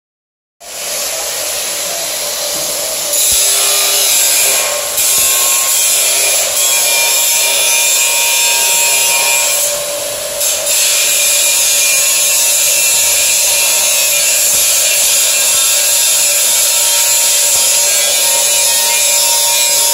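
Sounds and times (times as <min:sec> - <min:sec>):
angle grinder cutting steel: 0:00.6 - 0:19.9.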